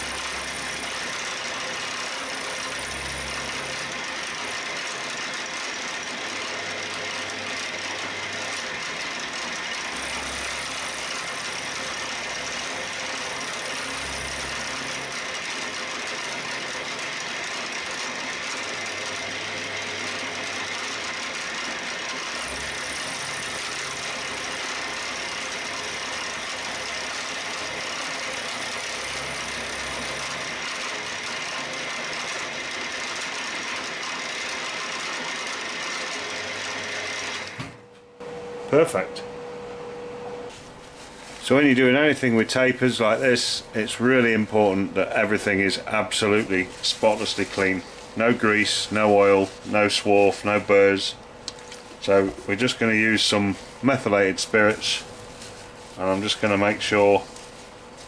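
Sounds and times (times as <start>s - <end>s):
milling machine cutting metal: 0.0s - 37.8s, 41.4s - 51.2s, 52.0s - 57.3s.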